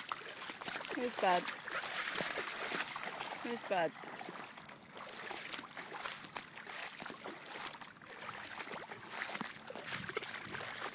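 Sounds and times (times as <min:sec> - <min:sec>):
footsteps splashing through water: 0:00.0 - 0:10.9.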